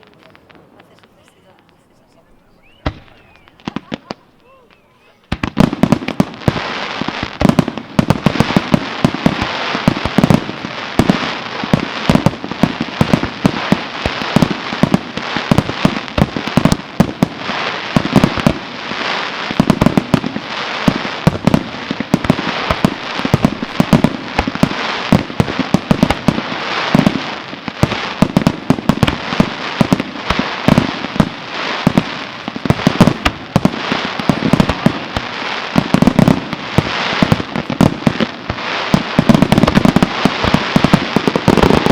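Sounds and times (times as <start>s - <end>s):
fireworks bangs: 0.0s - 41.9s
fireworks crackling hiss: 0.0s - 41.9s.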